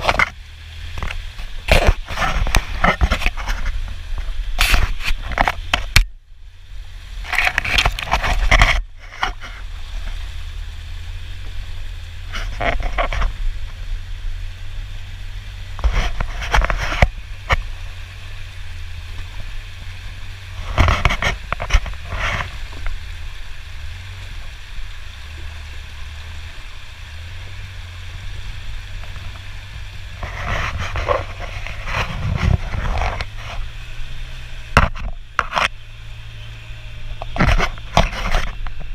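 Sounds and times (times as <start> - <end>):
brush scraping: 0.0 - 6.0, 7.1 - 13.4, 15.6 - 38.9
vehicle engine humming: 0.0 - 38.9
water splashing: 0.0 - 38.9.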